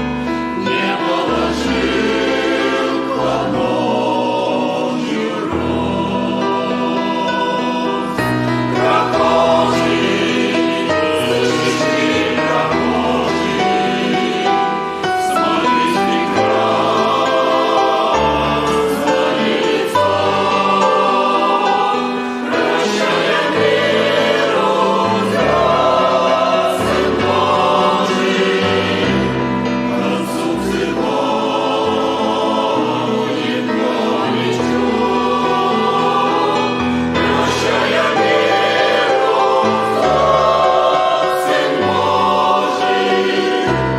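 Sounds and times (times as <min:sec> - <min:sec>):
choir singing a hymn: 0:00.0 - 0:43.9
instrumental accompaniment: 0:00.0 - 0:43.9.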